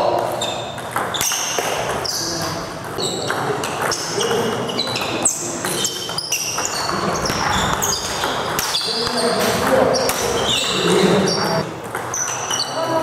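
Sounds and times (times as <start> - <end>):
table tennis ball hits: 0.0 - 2.2, 2.8 - 10.7, 11.8 - 12.6.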